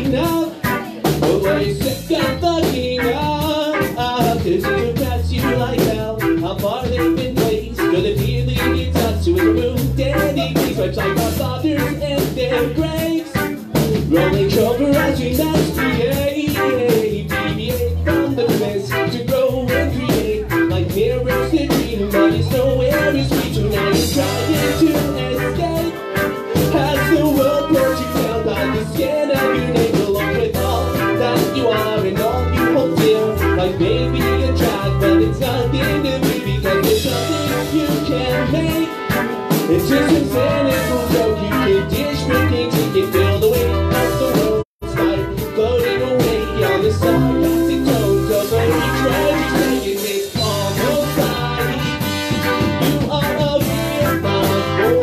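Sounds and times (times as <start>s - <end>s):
drum kit: 0.0s - 55.0s
electric bass: 0.0s - 55.0s
electric guitar: 0.0s - 55.0s
trumpet and trombone horn lines: 0.0s - 55.0s.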